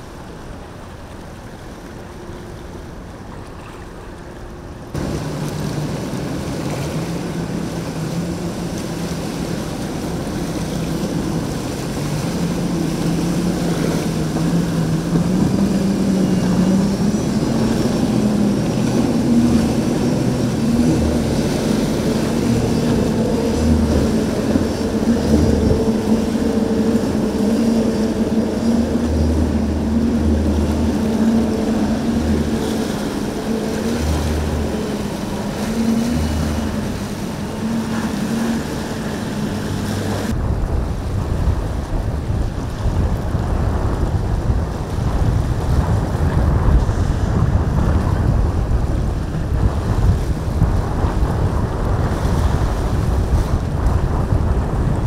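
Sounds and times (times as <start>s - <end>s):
motorboat engines running: 0.0s - 55.0s
wind on microphone: 4.6s - 55.0s.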